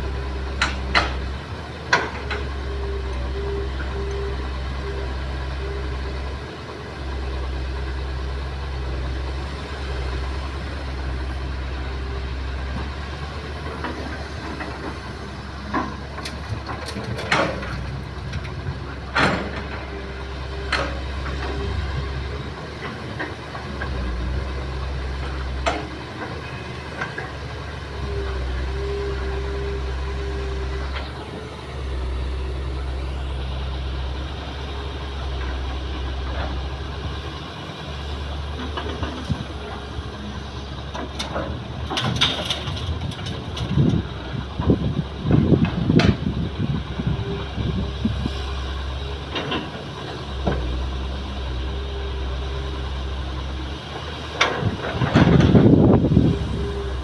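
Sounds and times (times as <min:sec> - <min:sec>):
excavator diesel engine rumbling: 0:00.0 - 0:57.0.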